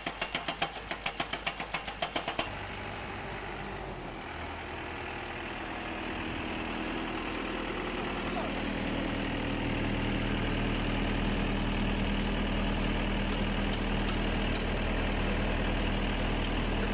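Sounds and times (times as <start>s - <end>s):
pile driver engine running: 0.0s - 16.9s.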